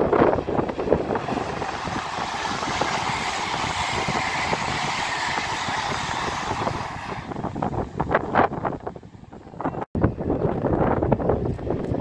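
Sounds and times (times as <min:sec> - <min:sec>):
high-speed train passing: 0:00.0 - 0:09.7.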